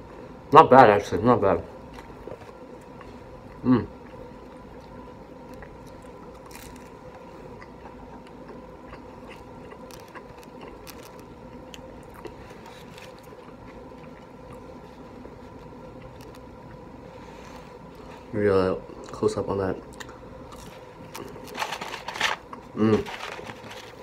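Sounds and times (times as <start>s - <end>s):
faint steady hum: 0.0s - 24.0s
quiet chewing: 1.8s - 19.2s, 19.8s - 21.6s.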